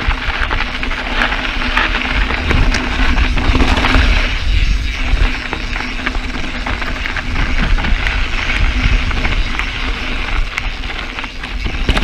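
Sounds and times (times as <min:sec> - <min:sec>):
bike rattling with sharp clicks: 0:00.0 - 0:12.0
tyres crunching on gravel: 0:00.0 - 0:12.0
wind rumble on microphone: 0:00.0 - 0:12.0.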